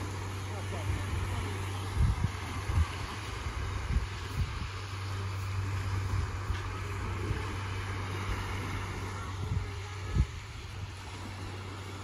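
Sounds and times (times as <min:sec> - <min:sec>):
gentle surf on shore: 0:00.0 - 0:12.0
wind buffeting microphone: 0:00.0 - 0:12.0.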